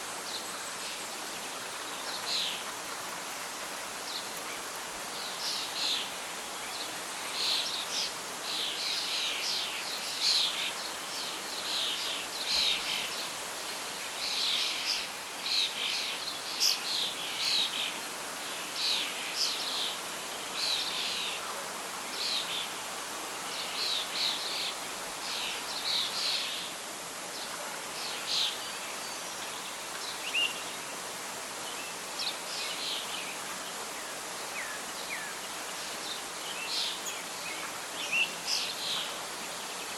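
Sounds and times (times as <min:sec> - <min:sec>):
leaves rustling: 0:00.0 - 0:39.9.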